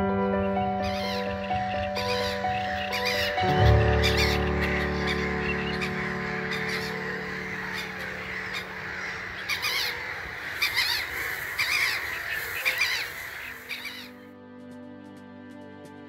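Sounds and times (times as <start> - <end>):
music: 0.0 - 12.2, 12.8 - 16.0
steady outdoor hiss: 0.2 - 14.8
crows cawing: 0.8 - 14.2.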